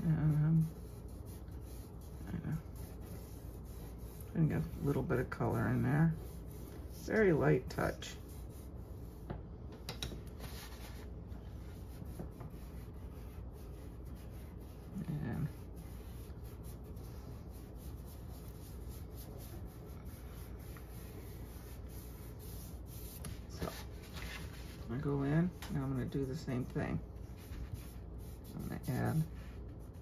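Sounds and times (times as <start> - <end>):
pastel scratching on paper: 0.0 - 9.3, 10.3 - 30.0.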